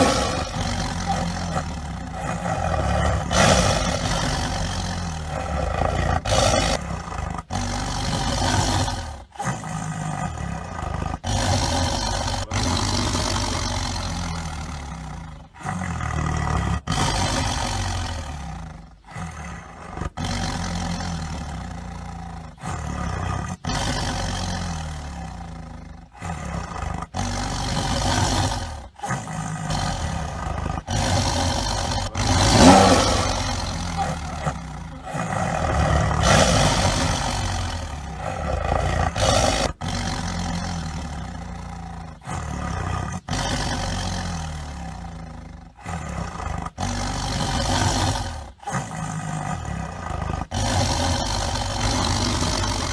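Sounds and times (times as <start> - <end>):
tiger roaring: 0.0 - 52.9.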